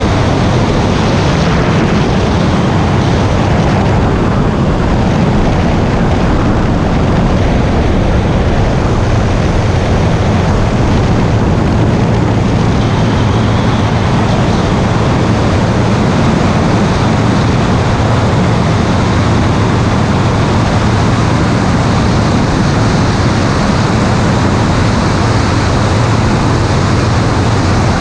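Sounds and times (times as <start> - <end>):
aircraft engine rumble: 0.0 - 28.0.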